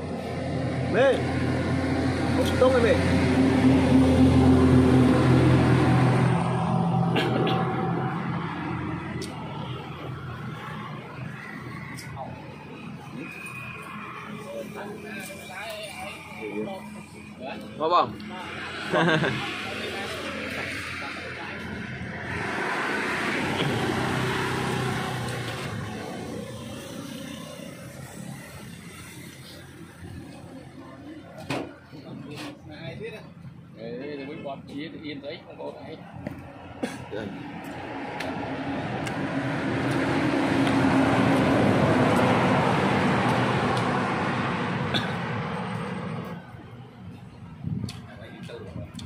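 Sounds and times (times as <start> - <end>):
motor vehicle passing by: 0.0 - 31.4, 35.6 - 48.9.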